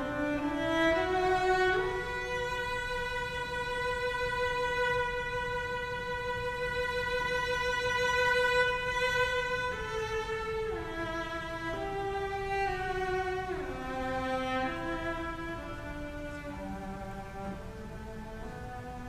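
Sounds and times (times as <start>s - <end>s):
bowed cello melody: 0.0s - 19.0s.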